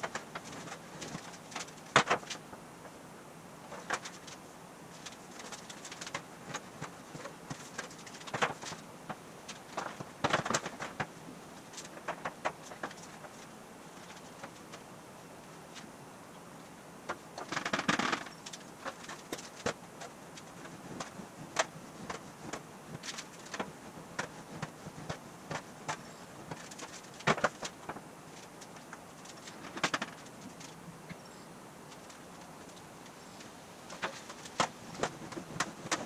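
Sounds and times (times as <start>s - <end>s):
metal sheet clicking and rattling: 0.0s - 2.4s, 3.7s - 14.8s, 17.1s - 30.8s, 33.9s - 36.0s.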